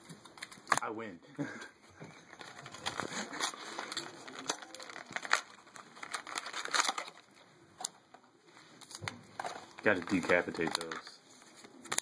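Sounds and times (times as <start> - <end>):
packaging crinkling and crackling: 2.2 - 12.0.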